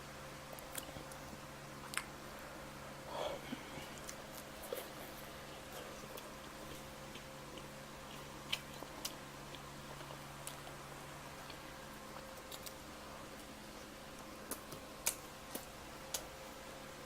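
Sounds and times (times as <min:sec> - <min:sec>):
person chewing pizza: 0:00.4 - 0:02.5, 0:03.1 - 0:16.6.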